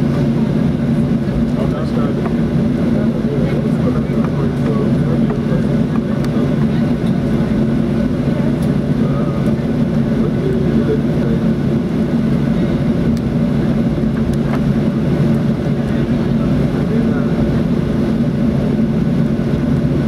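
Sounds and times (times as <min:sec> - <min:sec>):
airplane cabin hum and rumble: 0:00.0 - 0:20.0.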